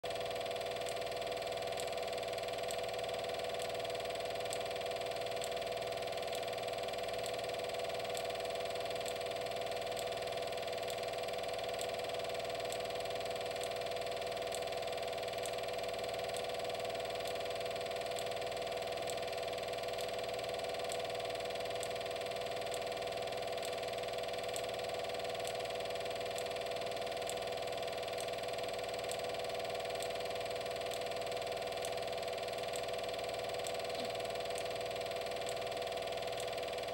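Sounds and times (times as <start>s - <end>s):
mechanical hum: 0.0s - 36.9s
faint ticks: 0.7s - 6.5s, 7.1s - 36.9s.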